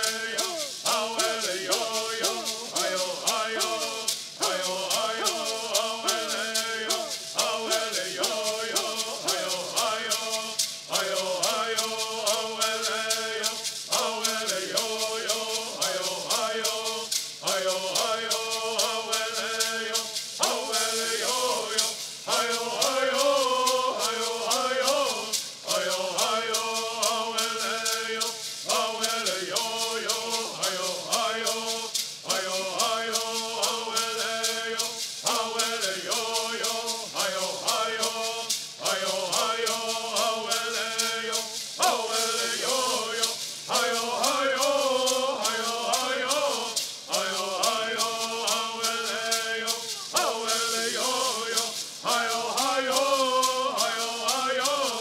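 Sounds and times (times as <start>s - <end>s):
gourd rattles shaking: 0.0s - 55.0s
men chanting in unison: 0.0s - 55.0s.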